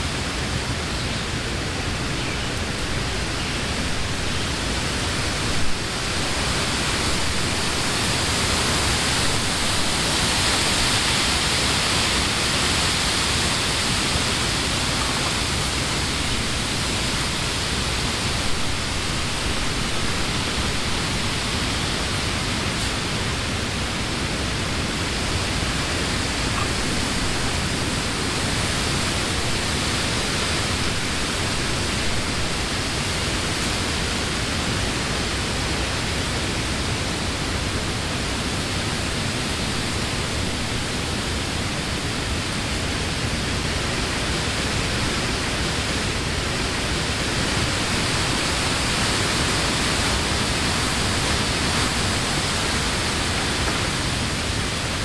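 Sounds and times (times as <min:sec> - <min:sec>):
wind rustling leaves: 0:00.0 - 0:55.0.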